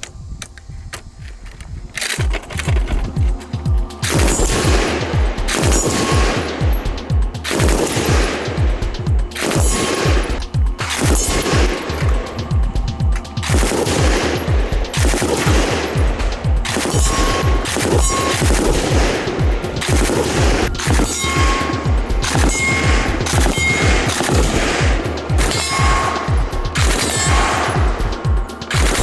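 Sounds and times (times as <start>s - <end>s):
machine gun firing bursts: 2.0s - 29.0s.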